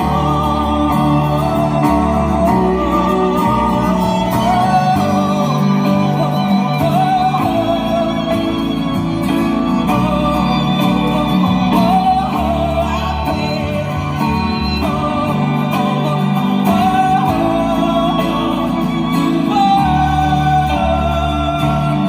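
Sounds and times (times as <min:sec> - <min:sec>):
instrumental backing with bass: 0:00.0 - 0:22.0
person singing with vibrato: 0:00.0 - 0:22.0.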